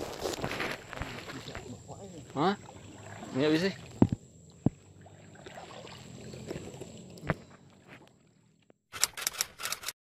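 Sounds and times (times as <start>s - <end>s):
water sloshing against boat: 0.3s - 8.7s.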